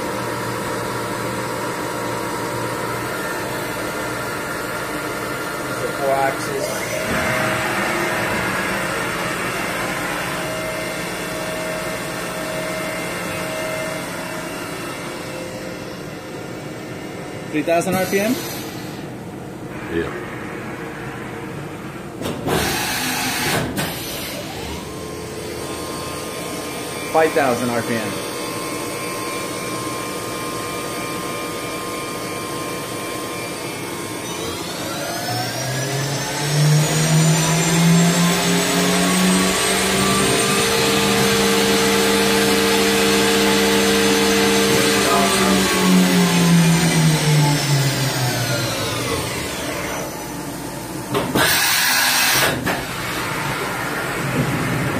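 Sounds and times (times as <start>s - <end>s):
machine hiss and hum: 0.0s - 54.9s.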